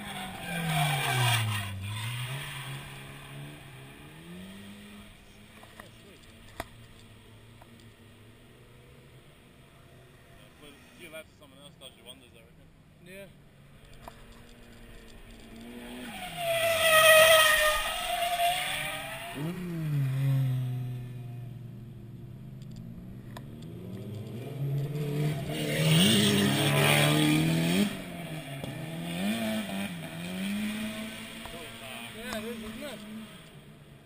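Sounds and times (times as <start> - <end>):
car engines revving: 0.0 - 12.4, 13.4 - 34.0.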